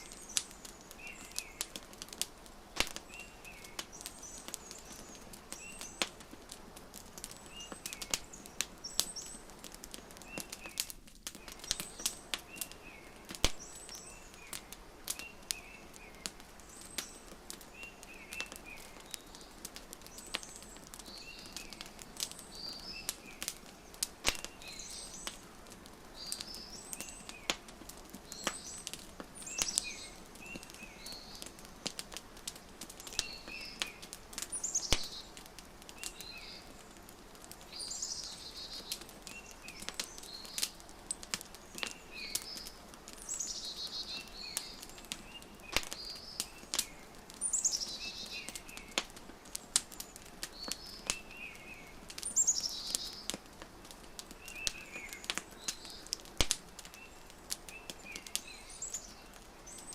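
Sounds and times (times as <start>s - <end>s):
small birds chirping: 0.0s - 59.9s
wood fire crackling and popping: 0.0s - 59.9s.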